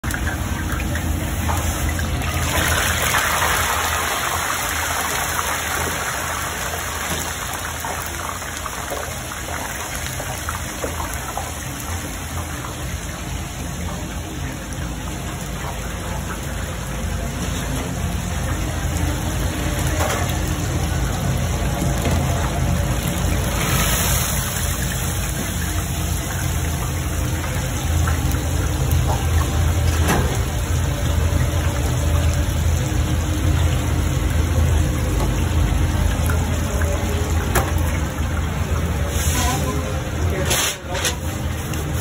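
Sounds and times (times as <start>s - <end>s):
fish sizzling in hot oil: 0.0s - 42.0s.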